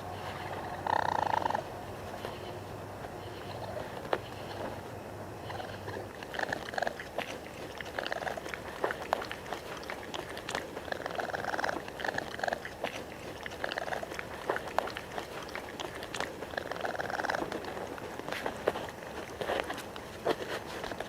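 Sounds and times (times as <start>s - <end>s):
raccoon buzzy purring calls: 0.0s - 21.0s.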